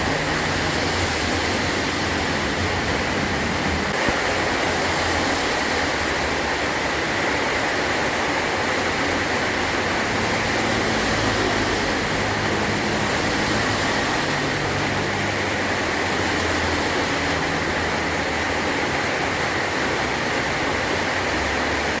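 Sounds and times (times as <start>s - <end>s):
heavy rain on a tin roof: 0.0s - 22.0s.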